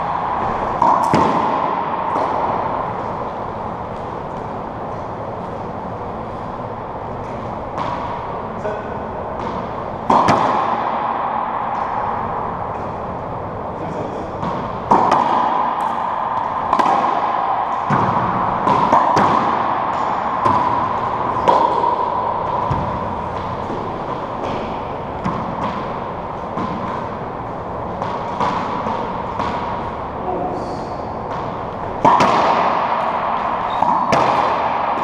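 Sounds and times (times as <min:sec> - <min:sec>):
racquetball hits echoing: 0:00.0 - 0:35.0.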